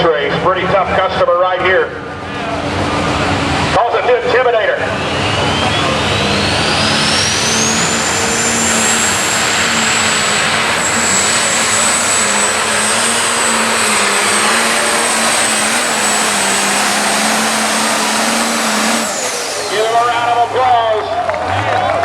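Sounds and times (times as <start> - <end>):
diesel tractor engine roaring: 0.0 - 22.0
turbocharger whine: 1.9 - 22.0.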